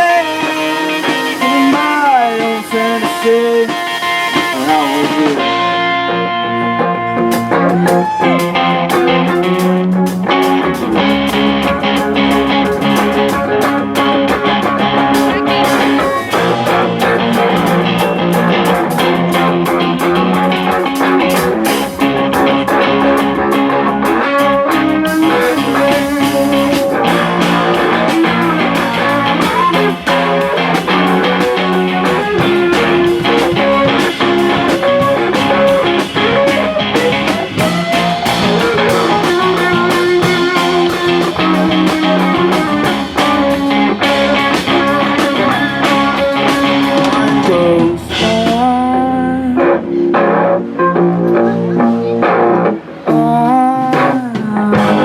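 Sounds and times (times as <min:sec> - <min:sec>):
drum beat: 0:00.0 - 0:05.9, 0:06.8 - 0:49.0, 0:53.2 - 0:55.0
electric guitar: 0:00.0 - 0:55.0.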